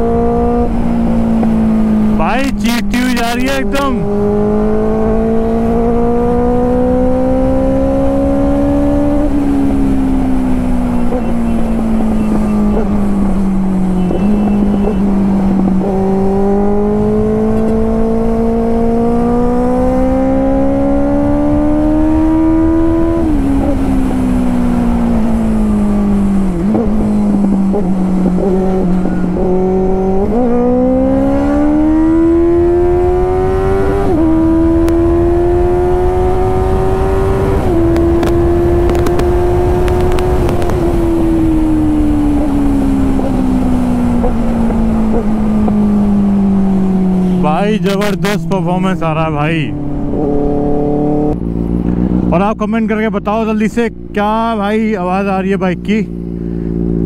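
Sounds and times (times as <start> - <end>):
motorcycle engine revving: 0.0 - 57.0
wind noise: 3.6 - 52.3.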